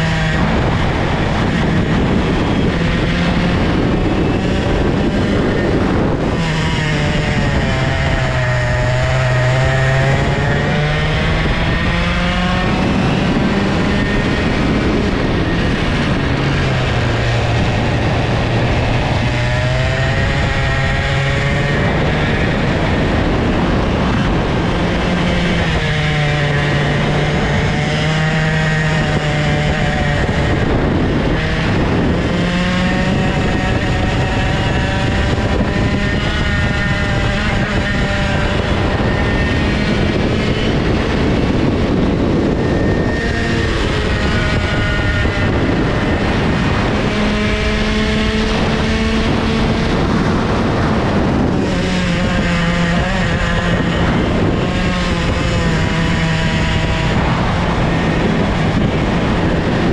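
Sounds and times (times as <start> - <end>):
two-stroke kart engine: 0.0 - 59.9
wind and road noise: 0.0 - 59.9.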